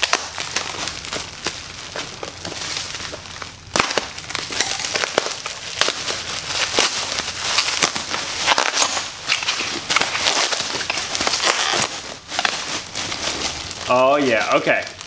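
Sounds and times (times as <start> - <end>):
bubble wrap crackling: 0.0 - 15.0.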